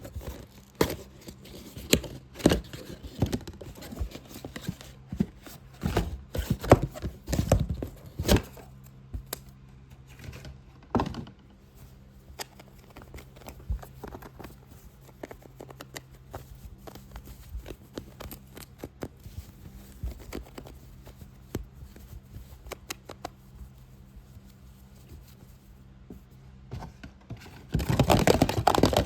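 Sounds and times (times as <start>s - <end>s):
tapping and scratching on a box: 0.0s - 9.4s, 12.2s - 25.6s, 27.2s - 29.0s
faint low hum: 0.0s - 29.0s.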